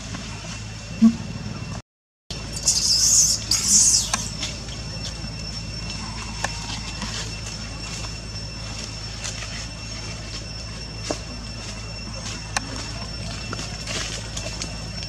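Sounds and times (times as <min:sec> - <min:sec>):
low background hum: 0:00.0 - 0:15.0
thin high whine: 0:00.0 - 0:15.0.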